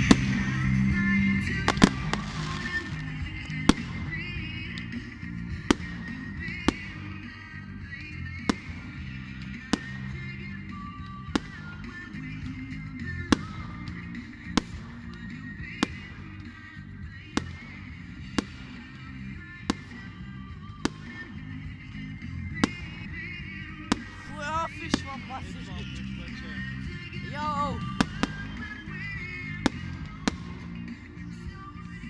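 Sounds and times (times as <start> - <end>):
firework bangs: 0.0 - 31.1
music playing: 0.0 - 32.0.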